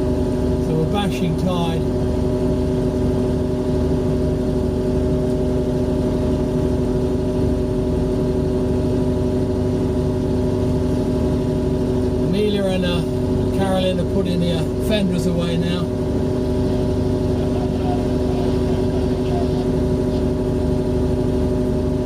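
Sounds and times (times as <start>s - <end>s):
boat engine humming steadily: 0.0s - 22.0s.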